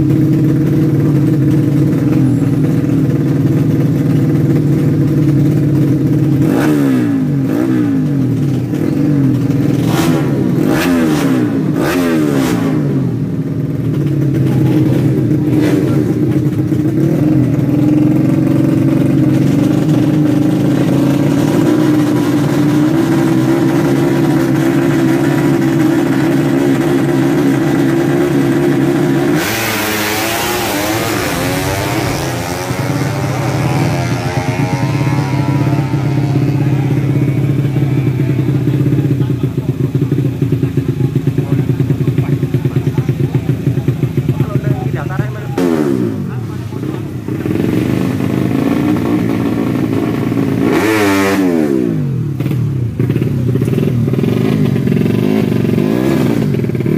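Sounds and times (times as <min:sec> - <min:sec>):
motorcycle accelerating: 0:00.0 - 0:56.9
motorcycle engine revving: 0:00.0 - 0:56.9.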